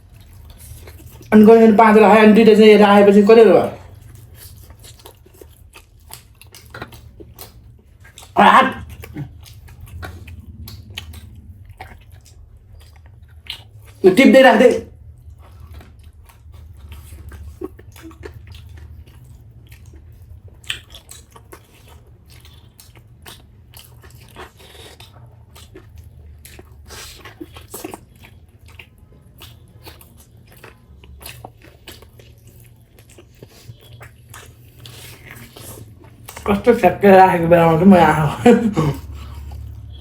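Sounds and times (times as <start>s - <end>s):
person chewing food: 0.0s - 1.6s, 3.8s - 14.0s, 14.9s - 40.0s.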